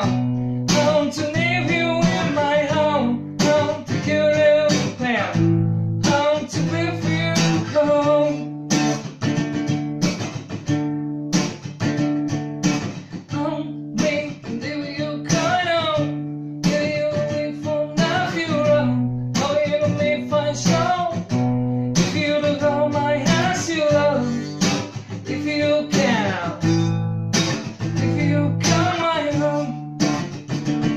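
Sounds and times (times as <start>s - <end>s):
man singing: 0.0s - 8.6s, 13.0s - 30.4s
acoustic guitar strumming: 0.0s - 30.9s.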